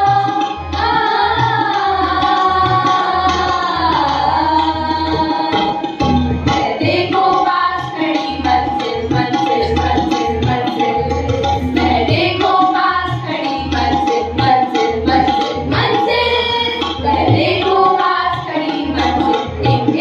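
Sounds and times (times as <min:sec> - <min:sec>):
young voices singing together: 0:00.0 - 0:05.9, 0:06.5 - 0:20.0
harmonium: 0:00.0 - 0:20.0
tabla strokes: 0:00.0 - 0:20.0.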